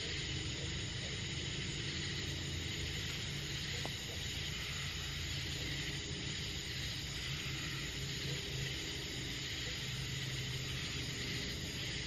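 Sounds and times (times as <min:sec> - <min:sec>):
crickets and insects chirring: 0:00.0 - 0:12.0
low steady rumble: 0:00.0 - 0:12.0.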